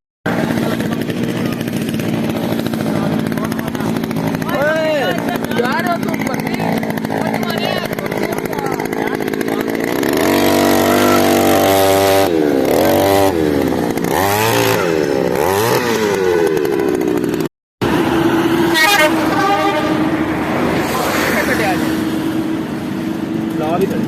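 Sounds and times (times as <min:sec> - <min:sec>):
small petrol engine revving: 0:00.3 - 0:24.0.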